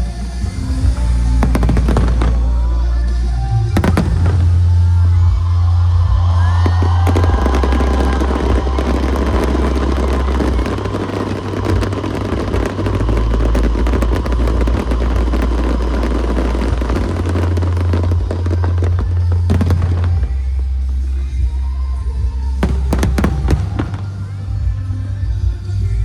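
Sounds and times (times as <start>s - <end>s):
fireworks crackling and popping: 0.0s - 26.0s
show music with heavy bass: 0.0s - 26.0s.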